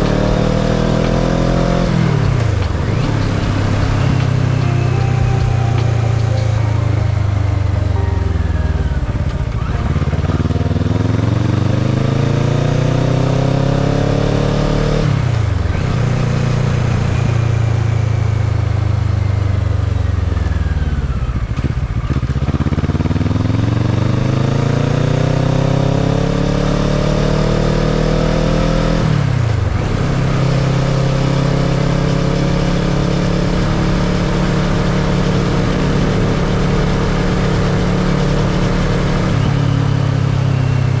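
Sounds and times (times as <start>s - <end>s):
motorcycle engine revving through gears: 0.0s - 41.0s.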